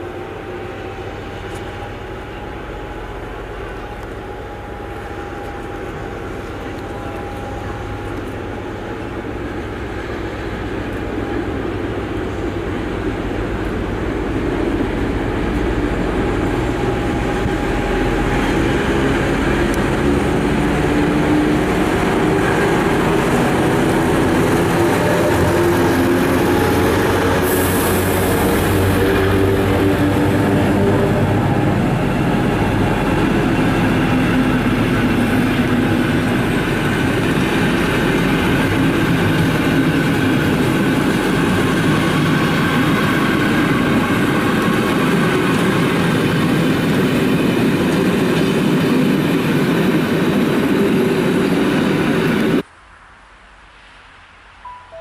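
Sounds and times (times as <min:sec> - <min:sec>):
diesel locomotive engine: 0:00.0 - 0:52.7
train coaches rolling past: 0:00.0 - 0:52.7.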